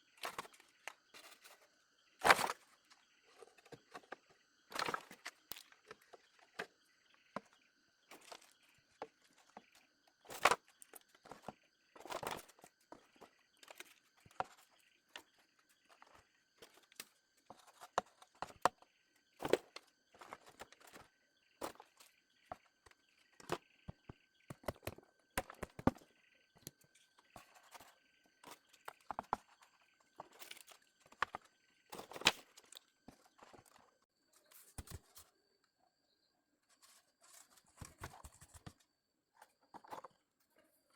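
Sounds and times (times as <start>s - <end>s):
knocks taps and scrapes: 2.2s - 35.3s, 36.7s - 40.2s.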